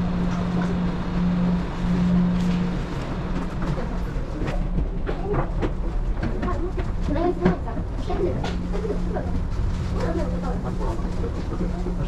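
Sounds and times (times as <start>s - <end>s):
low mechanical hum: 0.0s - 12.0s
rumble: 0.0s - 12.0s.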